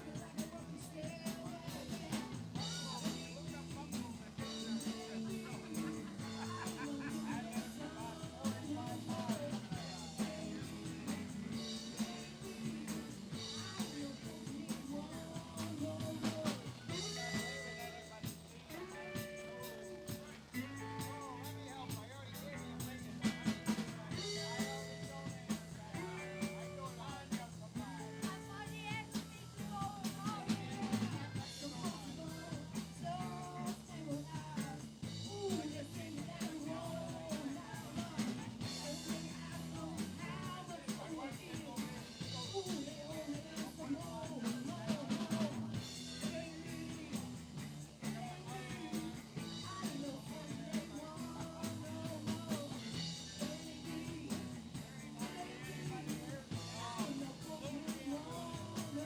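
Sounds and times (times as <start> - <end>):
bass guitar: 0.0 - 59.0
drum kit: 0.0 - 59.0
electric guitar: 0.0 - 59.0
person singing: 0.0 - 59.0.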